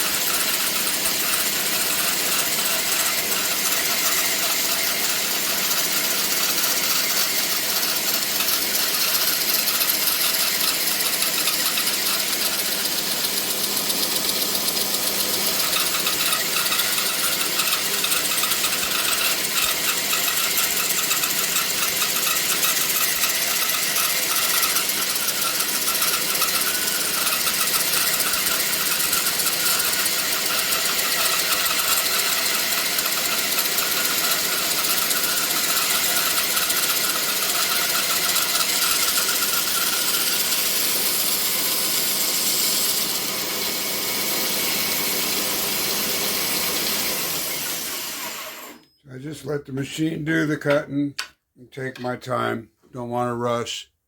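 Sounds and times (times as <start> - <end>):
bandsaw cutting wood: 0.0 - 48.9.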